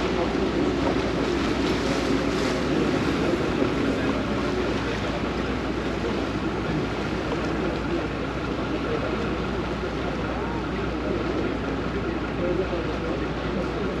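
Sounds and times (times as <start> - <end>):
diesel engine humming: 0.0 - 14.0
water rushing along hull: 0.0 - 14.0.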